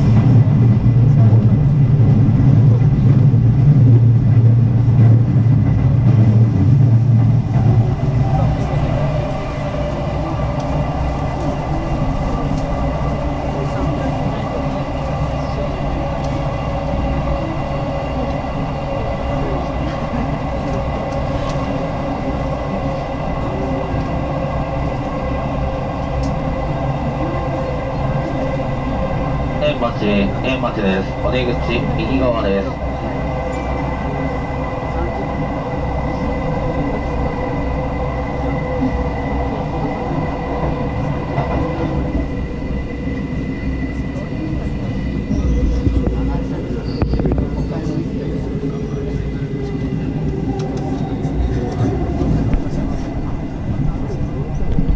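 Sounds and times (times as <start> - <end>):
train interior rumble and hiss: 0.0 - 54.9.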